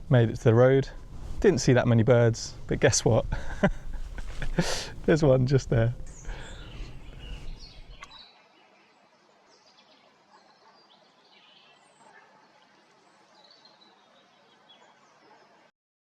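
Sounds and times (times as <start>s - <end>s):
background hiss: 0.0s - 15.7s
faint birdsong: 0.0s - 15.7s.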